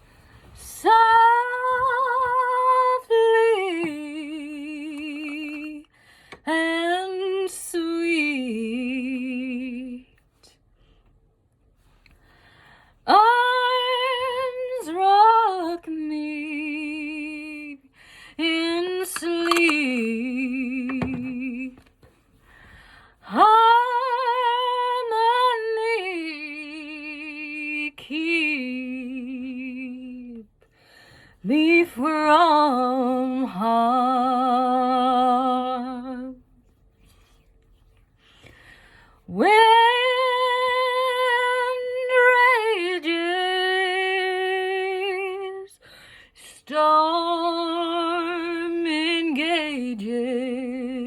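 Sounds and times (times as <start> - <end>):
woman singing unaccompanied: 0.6 - 10.2, 13.1 - 21.9, 23.2 - 30.5, 31.4 - 36.4, 39.3 - 45.8, 46.5 - 51.0.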